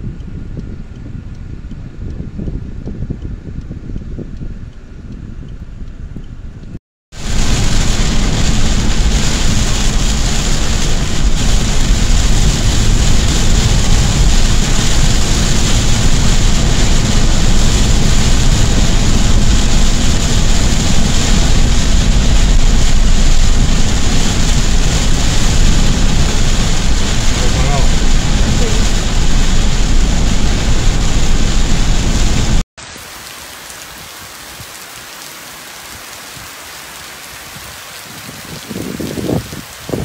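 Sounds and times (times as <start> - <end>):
wind noise: 0.0 - 32.6, 37.2 - 40.0
heavy rain on car roof: 7.1 - 40.0.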